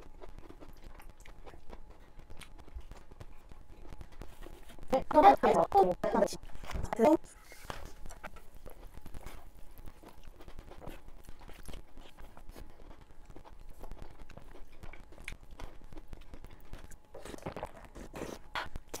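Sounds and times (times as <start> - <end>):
wet chewing of tomato: 0.0 - 4.9, 7.9 - 19.0
mouth clicks and crackles: 0.0 - 19.0.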